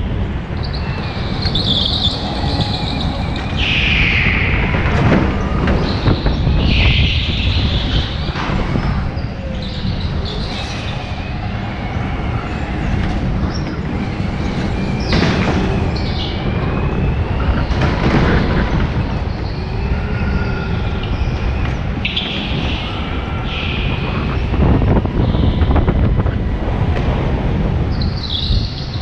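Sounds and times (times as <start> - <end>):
go-kart engine rumble: 0.0 - 29.0
rushes of noise: 0.0 - 29.0.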